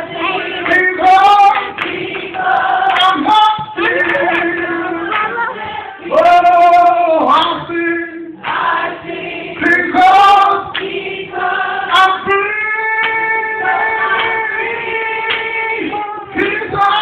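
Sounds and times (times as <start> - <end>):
person singing a church song: 0.0 - 17.0.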